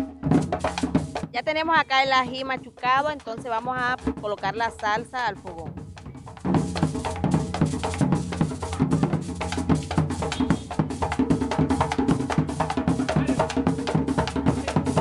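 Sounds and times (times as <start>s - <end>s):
background music with drum beat: 0.0s - 15.0s.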